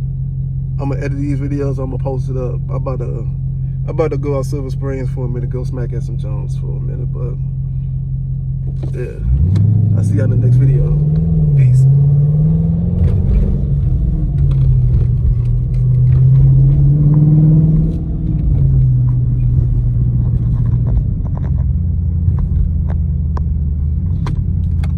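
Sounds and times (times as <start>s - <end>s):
car engine running: 0.0s - 24.9s.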